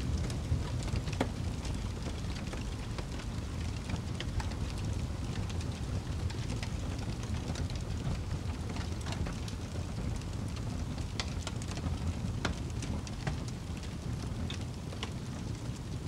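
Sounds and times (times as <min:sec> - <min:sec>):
fire burning rumble: 0:00.0 - 0:16.0
fire popping and snapping: 0:00.0 - 0:16.0.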